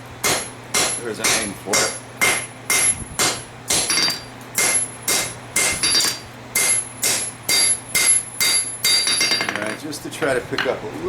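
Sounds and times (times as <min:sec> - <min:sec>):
hammer striking steel on anvil: 0:00.2 - 0:09.8.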